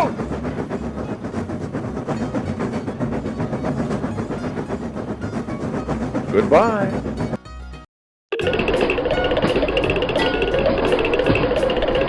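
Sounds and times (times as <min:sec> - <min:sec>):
train wheels clattering on rails: 0:00.0 - 0:06.3, 0:08.5 - 0:12.0.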